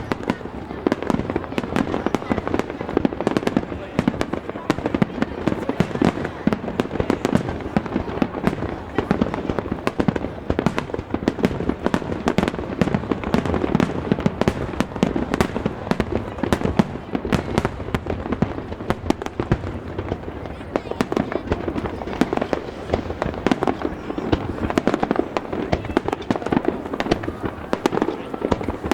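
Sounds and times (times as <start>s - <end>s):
fireworks bangs: 0.0s - 28.9s.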